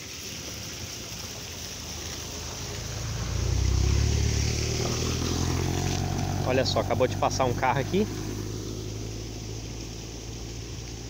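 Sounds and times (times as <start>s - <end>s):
car passing on dirt road: 0.9s - 11.0s.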